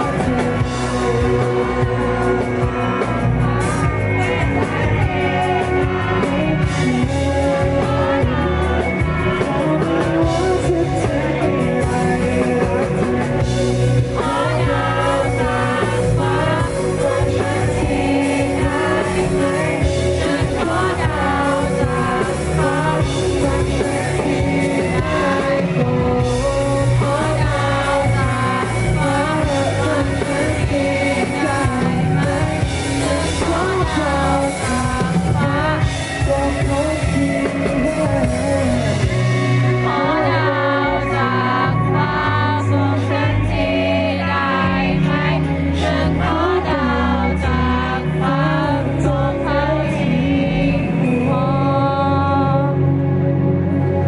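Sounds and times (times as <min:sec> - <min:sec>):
man singing into a microphone: 0:00.0 - 0:53.2
live rock band playing: 0:00.0 - 0:54.0.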